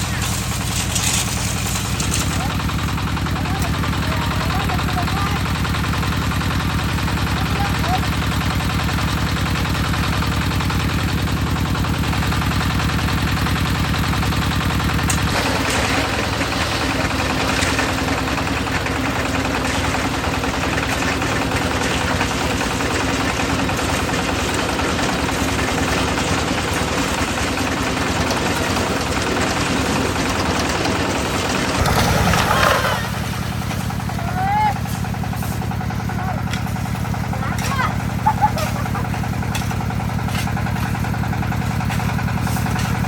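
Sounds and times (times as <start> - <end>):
concrete mixer engine chugging: 0.0 - 43.0.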